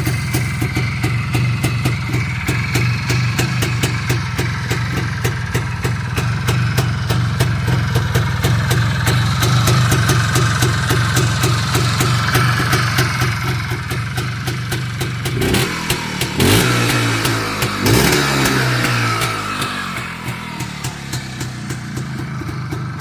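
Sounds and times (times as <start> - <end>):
two-stroke motorcycle engine idling: 0.0 - 23.0.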